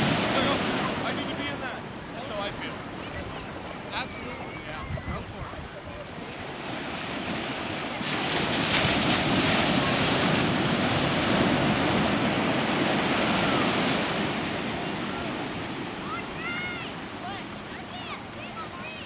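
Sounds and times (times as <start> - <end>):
ocean wave breaking: 0.0 - 19.0
rush of foaming water: 0.0 - 19.0.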